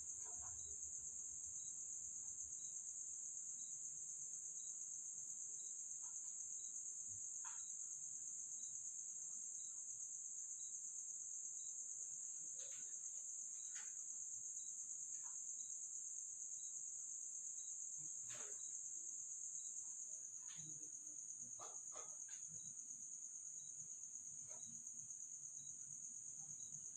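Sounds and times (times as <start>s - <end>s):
crickets trilling: 0.0s - 26.9s.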